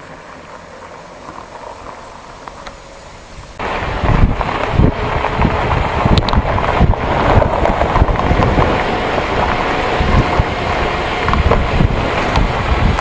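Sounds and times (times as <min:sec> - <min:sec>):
vehicle driving on rough road: 0:00.0 - 0:13.0
wind buffeting microphone: 0:00.0 - 0:13.0.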